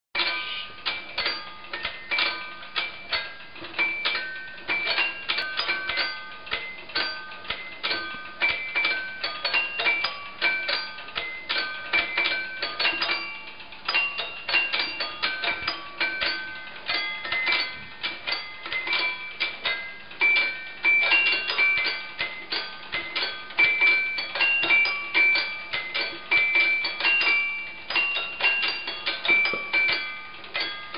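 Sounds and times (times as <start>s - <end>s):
music machine playing tune: 0.2s - 30.9s.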